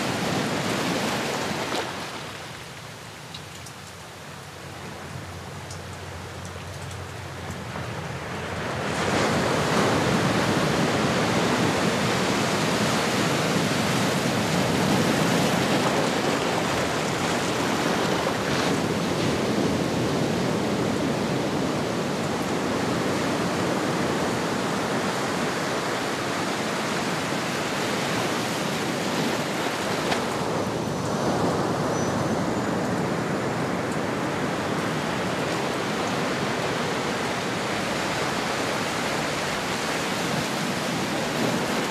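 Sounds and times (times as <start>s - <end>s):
ocean waves washing on shore: 0.0s - 41.9s.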